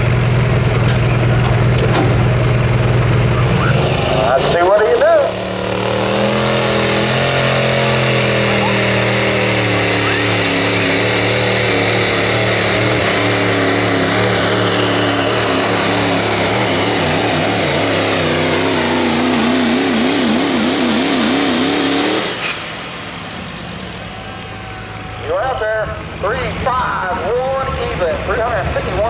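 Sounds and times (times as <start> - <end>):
diesel pickup engine at full throttle: 0.0 - 29.0.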